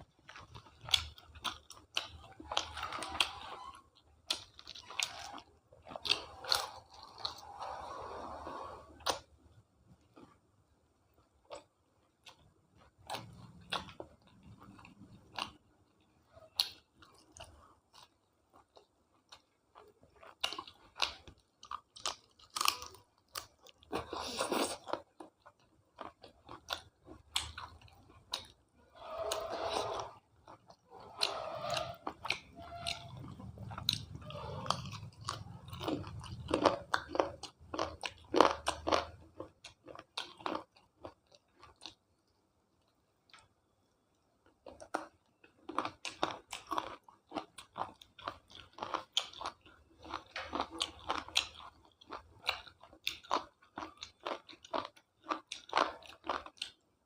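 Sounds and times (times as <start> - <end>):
person chewing crunchy food: 0.0 - 9.4, 11.2 - 42.2, 44.4 - 56.9.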